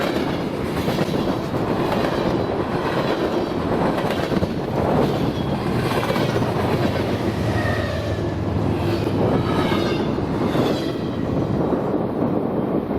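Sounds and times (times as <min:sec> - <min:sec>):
freight train wheels rumbling on rails: 0:00.0 - 0:12.9.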